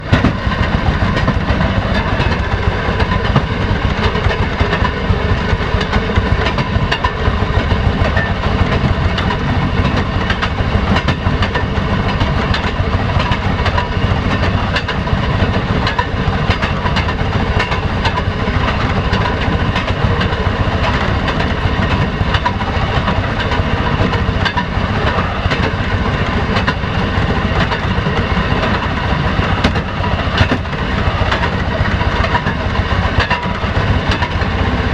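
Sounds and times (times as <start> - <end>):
rail motor car engine rumble: 0.0 - 34.9
wheels clicking over rail joints: 0.0 - 34.9.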